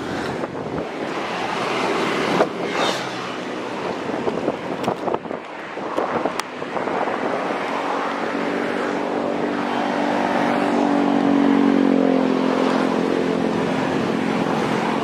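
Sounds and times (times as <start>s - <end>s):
traffic engine hum: 0.0s - 15.0s
wind and road noise: 0.0s - 15.0s.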